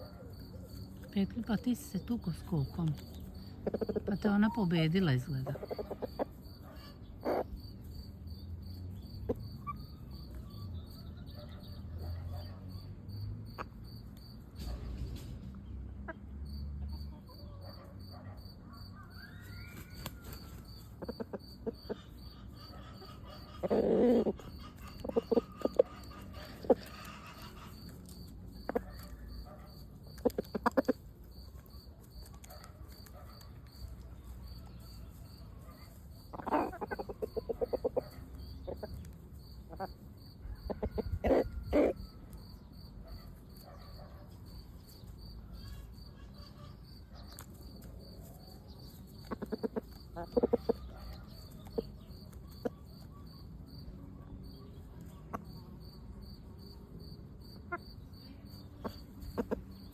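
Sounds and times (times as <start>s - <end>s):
chickens clucking: 0.0s - 12.6s, 13.5s - 17.9s, 19.0s - 56.8s, 57.4s - 59.9s
crickets chirping: 0.0s - 59.9s.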